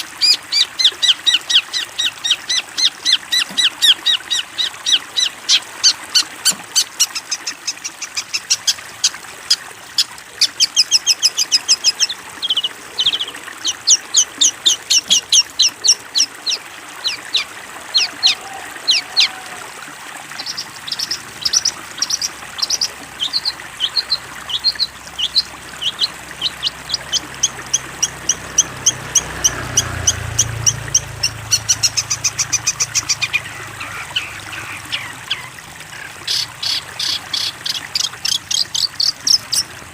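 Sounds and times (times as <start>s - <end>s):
bird singing chirps and trills: 0.0s - 19.5s, 20.3s - 39.8s.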